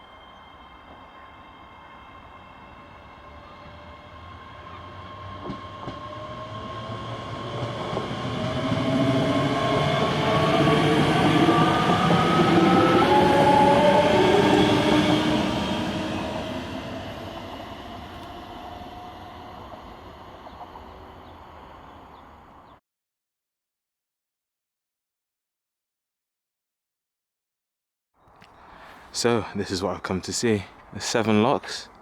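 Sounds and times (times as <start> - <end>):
train passing: 0.0 - 22.8, 28.6 - 32.0.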